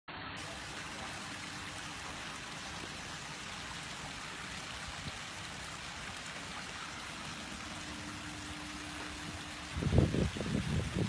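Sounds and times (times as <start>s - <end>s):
water splashing into a pond: 0.1s - 11.0s.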